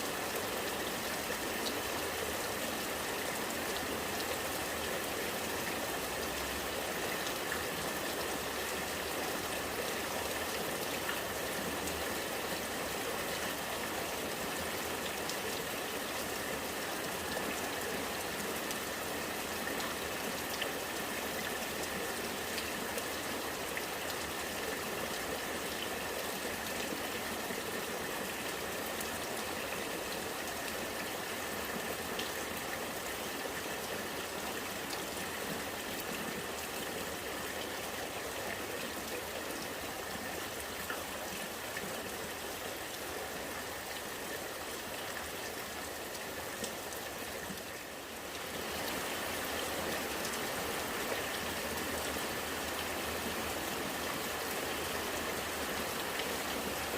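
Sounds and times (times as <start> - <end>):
rainwater running and gurgling: 0.0 - 56.9.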